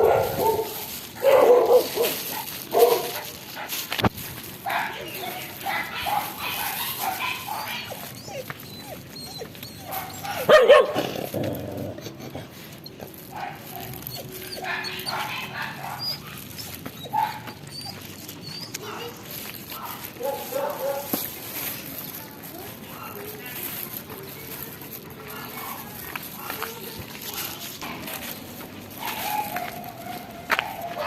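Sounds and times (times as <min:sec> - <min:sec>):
dogs barking and yipping: 0:00.0 - 0:31.0.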